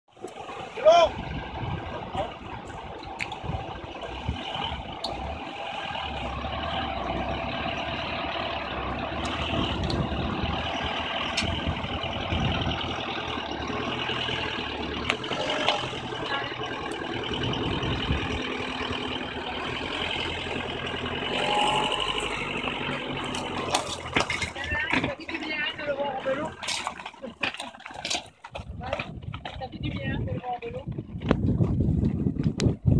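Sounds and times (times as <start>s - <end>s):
heavy vehicle engine running: 0.1s - 32.9s.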